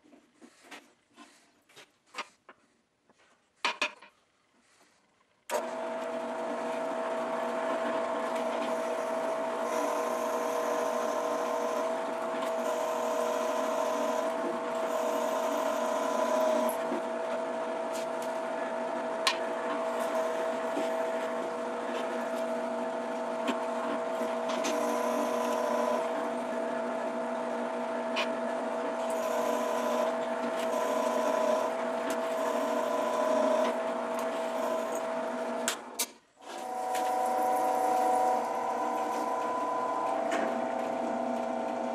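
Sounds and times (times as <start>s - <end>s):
drill press motor hum: 5.5s - 41.9s.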